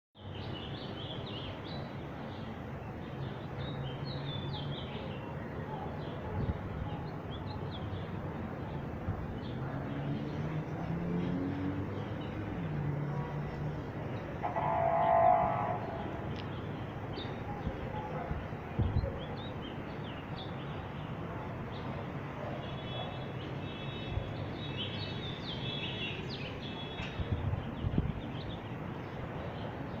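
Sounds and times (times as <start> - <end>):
steady background noise: 0.2 - 30.0.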